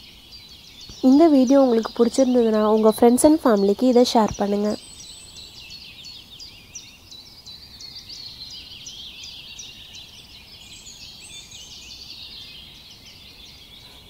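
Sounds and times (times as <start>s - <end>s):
faint background noise: 0.0s - 14.0s
small birds chirping: 0.0s - 14.0s.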